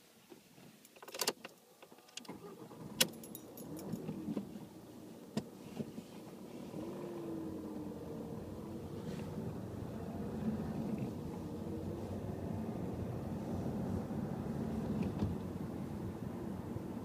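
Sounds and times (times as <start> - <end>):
car engine starting and revving: 2.3 - 17.0.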